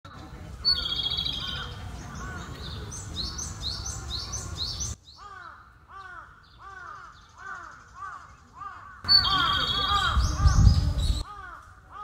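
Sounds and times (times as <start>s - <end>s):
bird singing: 0.1s - 11.6s.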